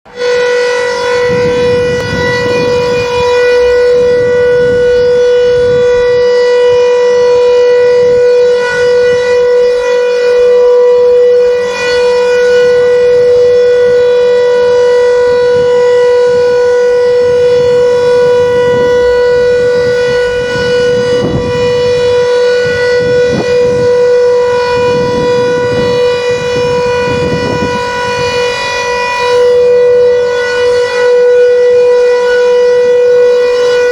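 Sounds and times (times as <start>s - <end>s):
steady emergency siren tone: 0.1s - 33.9s.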